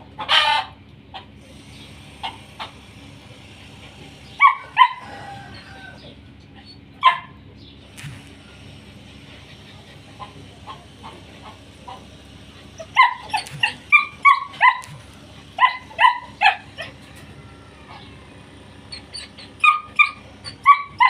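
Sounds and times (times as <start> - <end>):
puppies yapping: 3.8 - 21.0.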